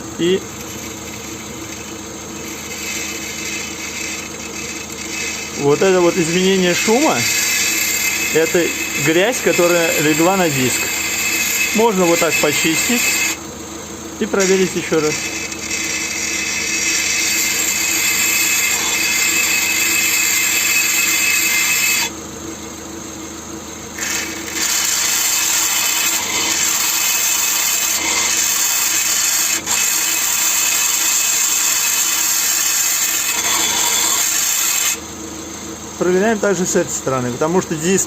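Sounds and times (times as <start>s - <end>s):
faint hum of wheel spinning: 0.1s - 34.2s.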